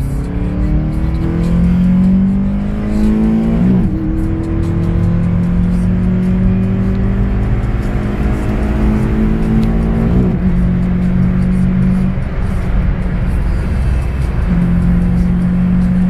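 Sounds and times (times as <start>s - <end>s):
car engine pulling under load: 1.1s - 14.5s.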